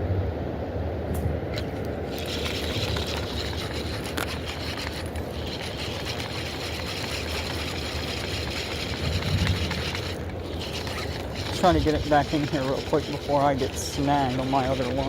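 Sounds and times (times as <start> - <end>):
fishing reel whirring: 1.6 - 15.0.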